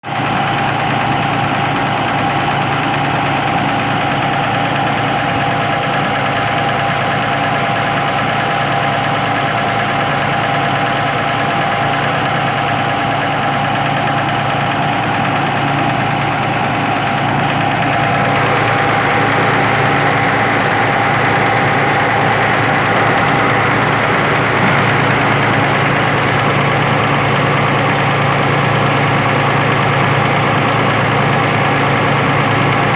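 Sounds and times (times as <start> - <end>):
diesel engine idling: 0.1 - 32.9.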